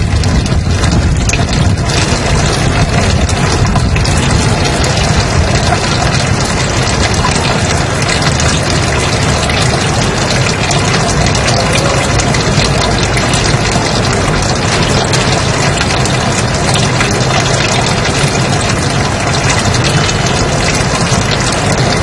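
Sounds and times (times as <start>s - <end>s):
white noise hiss with low rumble: 0.0s - 22.0s.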